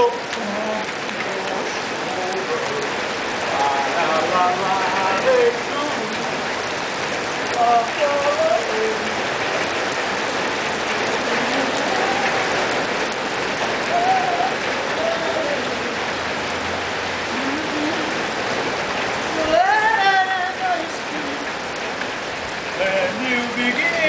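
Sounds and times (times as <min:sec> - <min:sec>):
rain on wet asphalt: 0:00.0 - 0:24.0.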